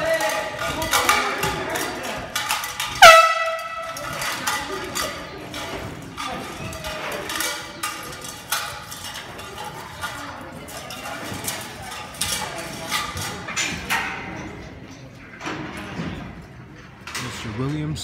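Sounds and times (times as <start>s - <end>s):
sharp metal clanks and knocks: 0.0s - 16.5s.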